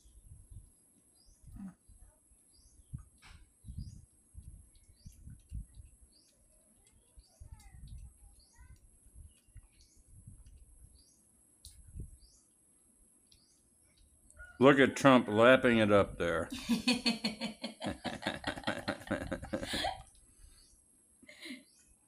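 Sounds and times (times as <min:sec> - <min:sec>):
small birds chirping: 0:00.0 - 0:14.6, 0:18.7 - 0:22.0.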